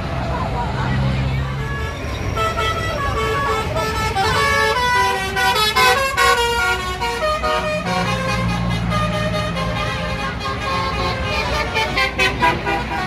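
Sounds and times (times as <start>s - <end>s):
passing traffic: 0.0s - 13.0s
bus melody horn: 1.5s - 13.0s.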